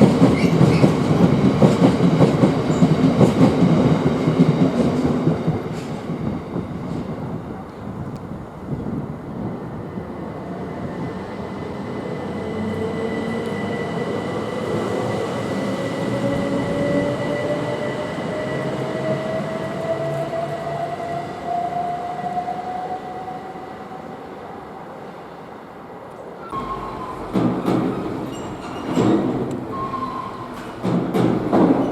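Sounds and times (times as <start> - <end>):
train wheels rumbling on track: 0.0 - 22.2, 26.5 - 31.9.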